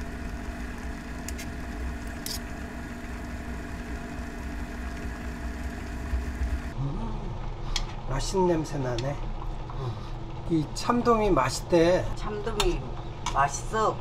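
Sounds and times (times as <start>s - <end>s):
kitchen appliance humming: 0.0s - 14.0s.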